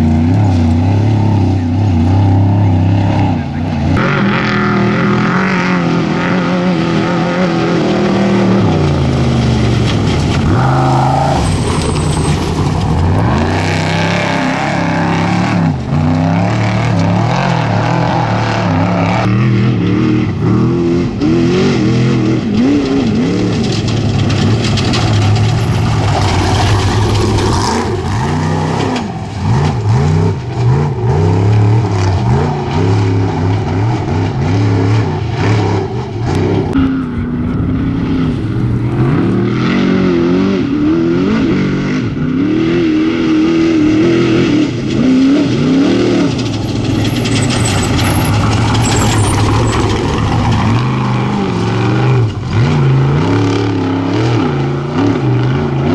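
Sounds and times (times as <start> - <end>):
race vehicle engines revving: 0.0 - 55.9.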